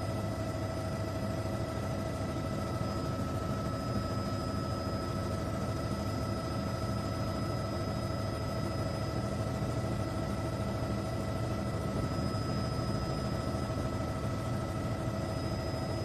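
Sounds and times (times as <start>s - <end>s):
machine drone with whining tones: 0.0s - 16.0s.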